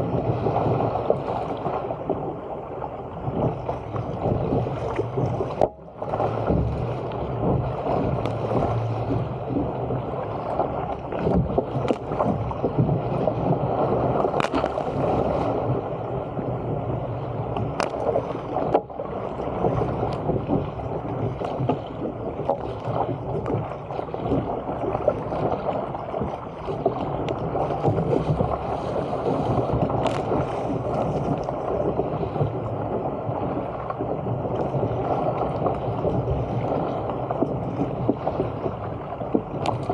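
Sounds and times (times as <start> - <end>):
water splashing against a hull: 0.0 - 39.9.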